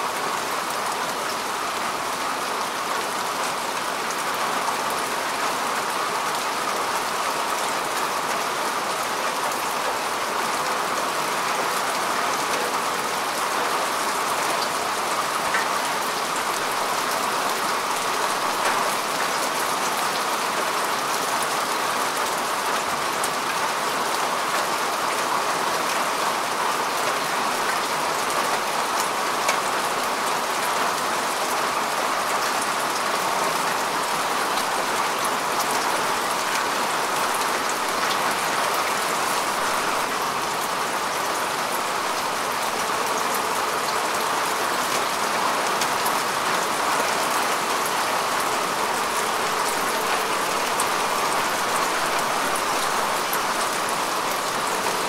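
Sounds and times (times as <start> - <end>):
rain falling on grass: 0.0 - 55.0.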